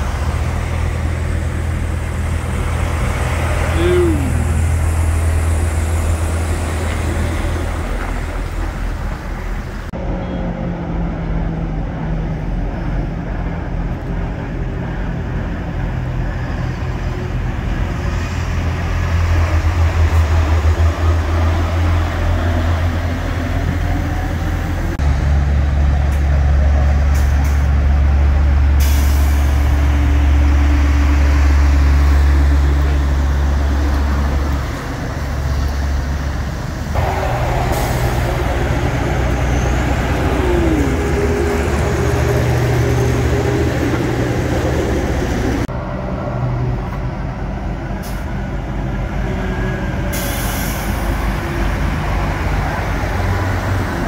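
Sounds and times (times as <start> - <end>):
lorry diesel engines rumbling: 0.0 - 54.0.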